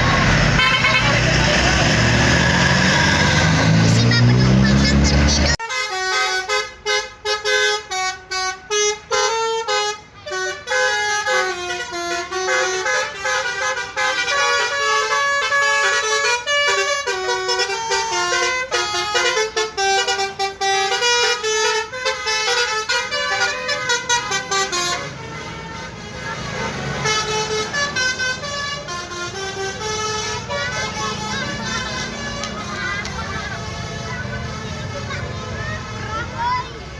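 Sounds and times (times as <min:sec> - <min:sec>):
musical bus horn tune: 0:00.0 - 0:02.2, 0:03.1 - 0:35.6.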